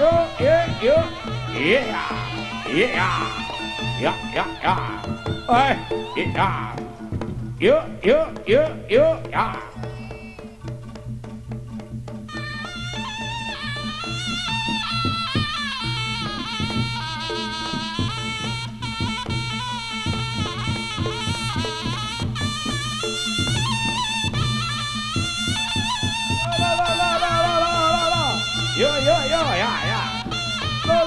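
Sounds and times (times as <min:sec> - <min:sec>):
hand drum strokes: 0:00.0 - 0:31.0
shawm playing ornamented melody: 0:00.0 - 0:31.0.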